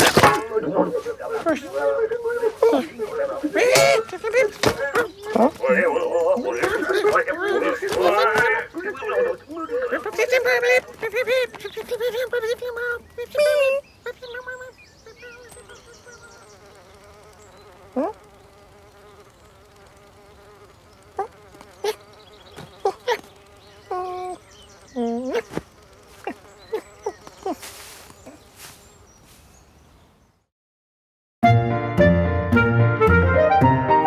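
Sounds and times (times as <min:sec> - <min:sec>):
insect-like buzz: 0:00.0 - 0:30.0.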